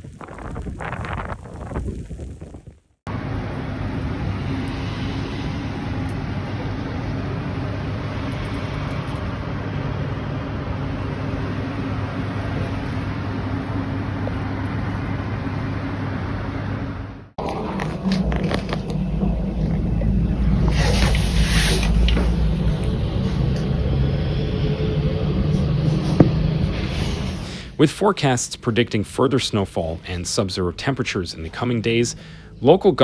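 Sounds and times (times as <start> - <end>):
vehicle engine running: 3.1 - 33.0.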